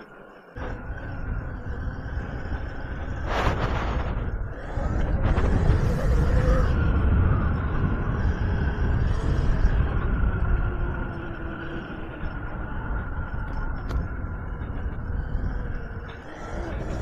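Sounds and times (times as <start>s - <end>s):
electric motor whine: 0.0s - 17.0s
wind rumbling on microphone: 0.0s - 17.0s.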